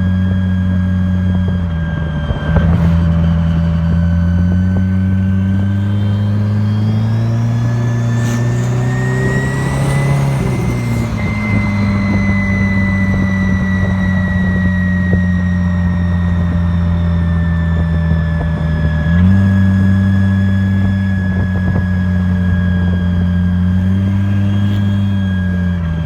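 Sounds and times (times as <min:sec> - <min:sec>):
car engine running: 0:00.0 - 0:26.0
faint high whine: 0:00.0 - 0:26.0.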